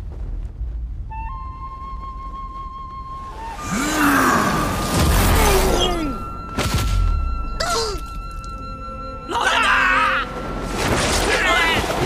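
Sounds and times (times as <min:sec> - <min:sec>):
dramatic music score: 0:00.1 - 0:12.0.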